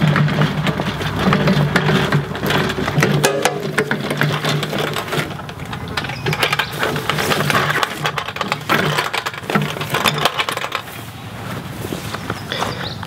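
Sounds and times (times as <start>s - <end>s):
metal drum rattling and clanking: 0.0s - 13.0s.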